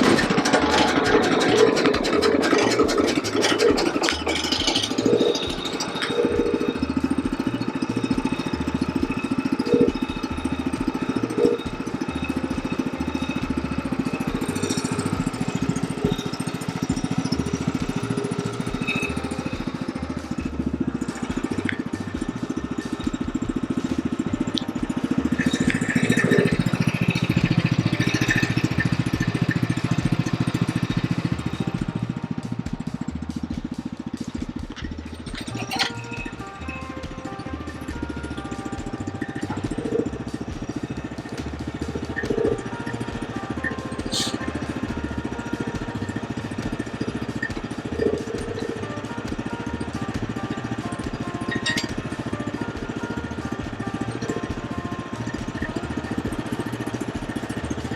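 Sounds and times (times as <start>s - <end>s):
gasoline engine idling: 0.0s - 57.9s.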